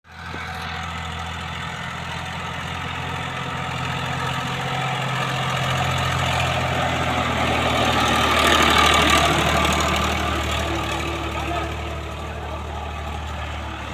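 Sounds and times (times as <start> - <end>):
tractor diesel engine idling: 0.0 - 13.9.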